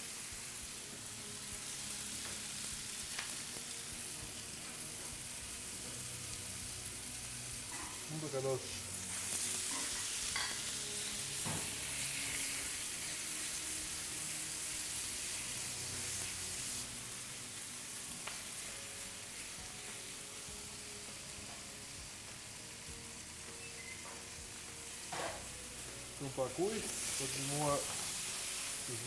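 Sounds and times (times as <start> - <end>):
meat and peppers sizzling in a pan: 0.0 - 29.0.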